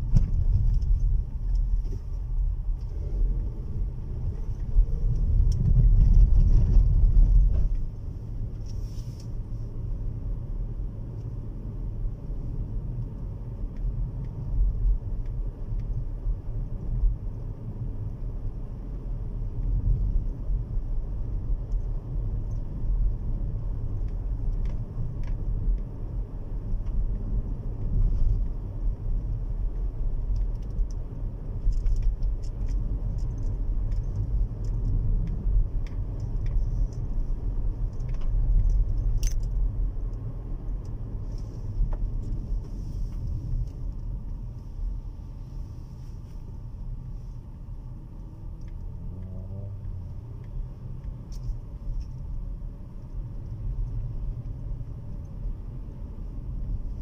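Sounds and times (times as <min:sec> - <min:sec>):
car driving on wet road: 0:00.0 - 0:57.0.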